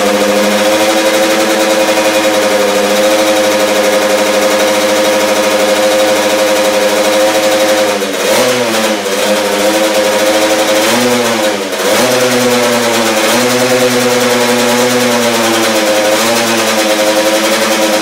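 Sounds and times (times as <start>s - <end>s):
two-stroke engine idling: 0.0s - 18.0s.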